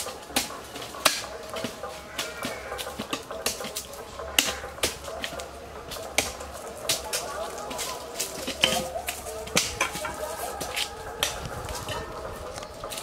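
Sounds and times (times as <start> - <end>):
hoes chopping dry soil: 0.0 - 13.0.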